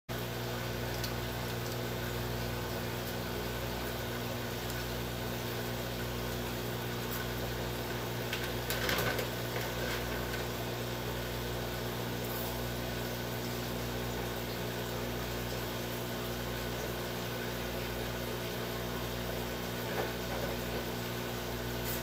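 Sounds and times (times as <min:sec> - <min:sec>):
aquarium filter humming: 0:00.1 - 0:22.0.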